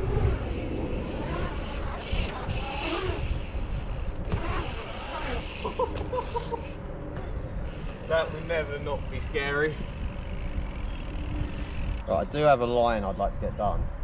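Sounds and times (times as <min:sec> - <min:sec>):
bike tyres rolling on concrete: 0:00.0 - 0:06.9, 0:07.5 - 0:12.0
wind rumbling on microphone: 0:00.0 - 0:14.0.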